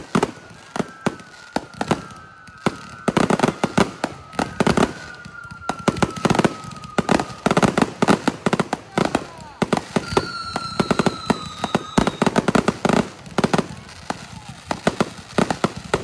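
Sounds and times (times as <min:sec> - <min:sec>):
high whistle sliding down: 0:00.0 - 0:14.8
fireworks cracks and bangs: 0:00.0 - 0:16.0.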